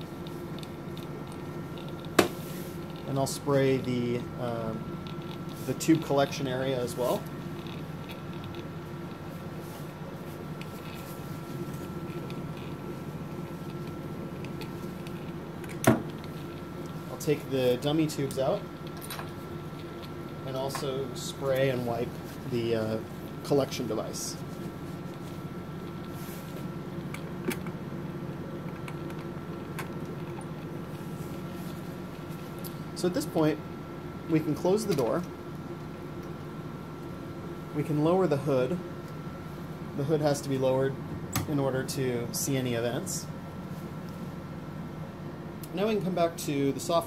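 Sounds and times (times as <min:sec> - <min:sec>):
cell sorter machine humming: 0:00.0 - 0:47.0.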